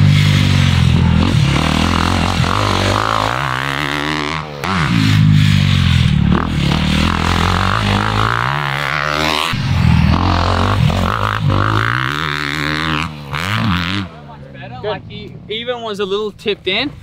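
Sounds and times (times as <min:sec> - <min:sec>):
dirt bike engine running: 0:00.0 - 0:16.2.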